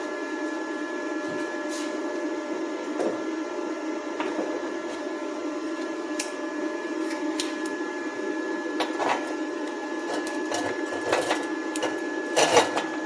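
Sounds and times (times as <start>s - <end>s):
welding machine hum and whine: 0.0s - 13.0s.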